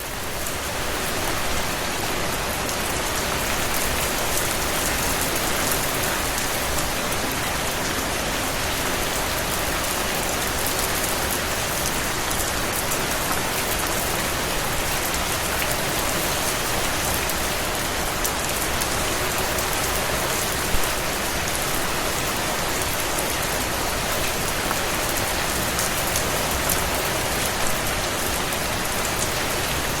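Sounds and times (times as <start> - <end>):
rain on cobblestones: 0.0 - 30.0.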